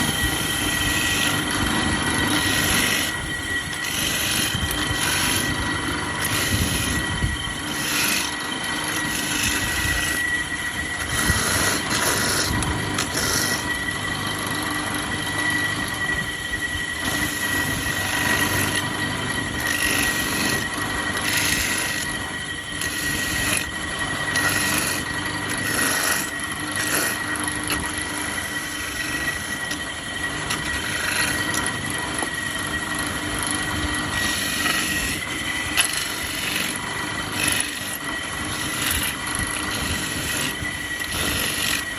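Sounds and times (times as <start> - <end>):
grater scraping coconut: 0.0 - 10.4, 11.0 - 13.8, 17.0 - 41.9
coconut grater motor whine: 0.0 - 41.9.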